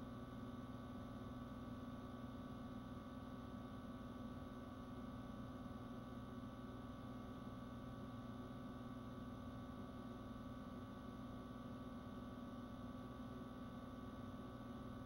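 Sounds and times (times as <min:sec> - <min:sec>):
faint steady hum with tones: 0:00.0 - 0:15.0.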